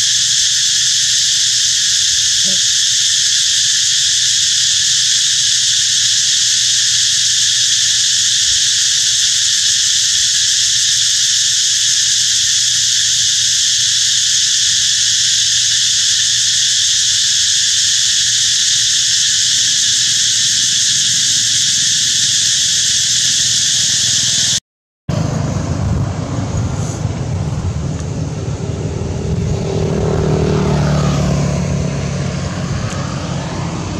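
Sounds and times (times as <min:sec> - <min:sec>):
insect chorus buzzing: 0:00.0 - 0:24.6, 0:25.4 - 0:33.9.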